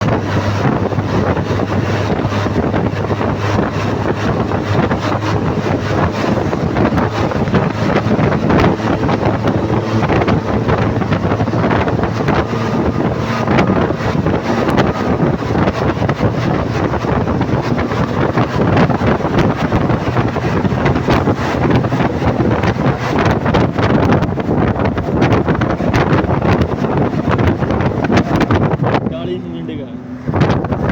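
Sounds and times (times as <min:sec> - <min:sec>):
low motor hum: 0:00.0 - 0:30.9
wind buffeting microphone: 0:00.0 - 0:30.9.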